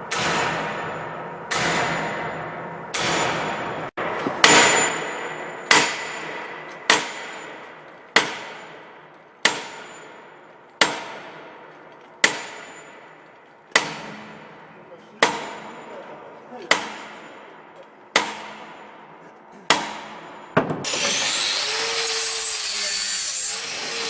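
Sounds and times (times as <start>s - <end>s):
hammer clanging on steel: 0.0s - 21.2s.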